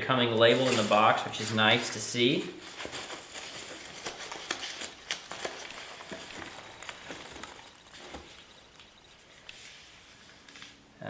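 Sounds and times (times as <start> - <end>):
packaging rustling: 0.0 - 10.8.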